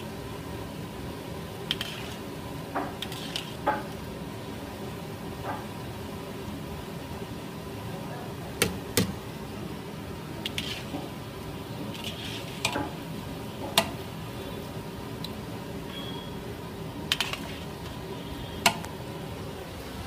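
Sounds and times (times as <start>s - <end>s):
bread deep-frying in oil: 0.0s - 20.0s.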